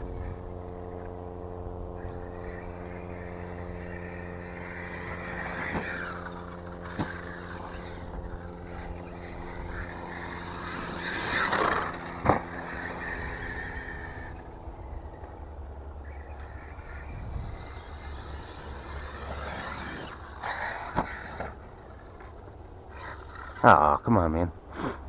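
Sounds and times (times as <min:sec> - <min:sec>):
electric motor whining: 0:00.0 - 0:23.7
steady low hum: 0:00.0 - 0:25.0.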